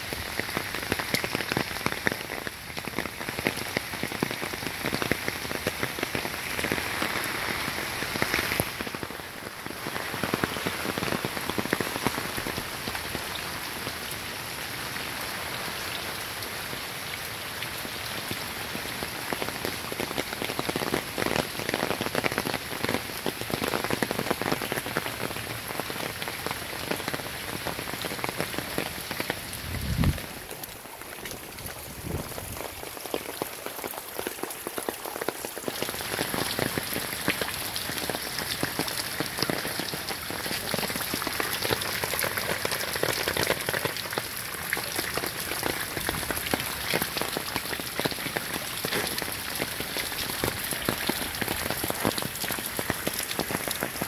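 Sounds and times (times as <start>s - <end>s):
heavy rain on wooden deck: 0.0s - 54.0s.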